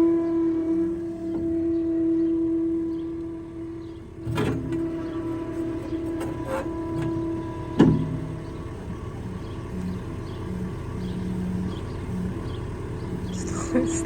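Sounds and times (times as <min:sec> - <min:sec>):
skid loader engine under load: 0:00.0 - 0:14.0.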